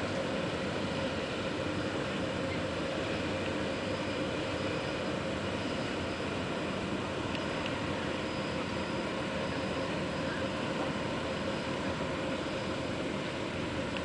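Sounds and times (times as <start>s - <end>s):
boat diesel engine droning: 0.0s - 14.0s.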